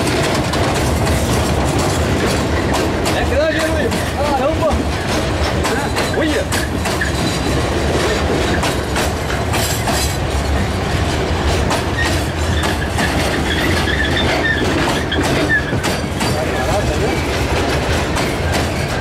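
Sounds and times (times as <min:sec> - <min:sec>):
train wagons rolling past: 0:00.0 - 0:19.0
wheels clicking over rail joints: 0:00.0 - 0:19.0.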